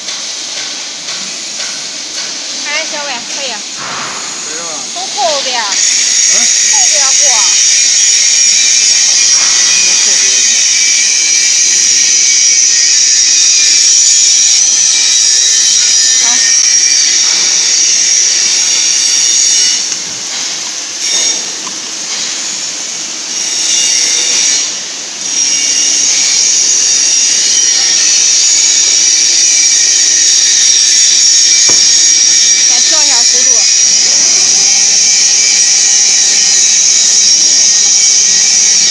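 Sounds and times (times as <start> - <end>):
electric motor and gearbox whining: 2.6 - 38.9.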